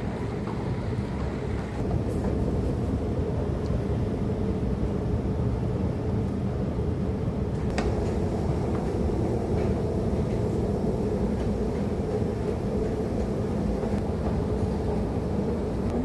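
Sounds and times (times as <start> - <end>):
underground train rumbling: 0.0 - 16.0.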